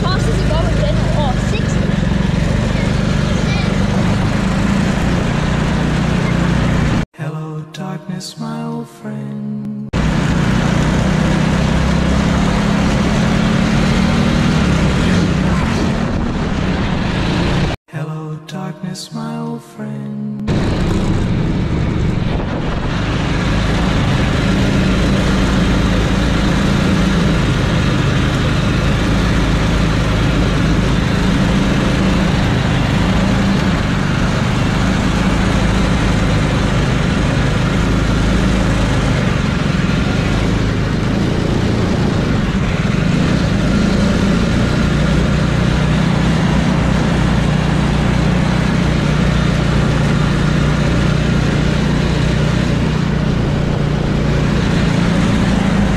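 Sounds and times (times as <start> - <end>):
small car engine running: 0.0 - 7.1, 9.6 - 17.8, 20.4 - 55.9
wind and road noise: 0.0 - 7.1, 9.8 - 17.8, 20.4 - 55.9.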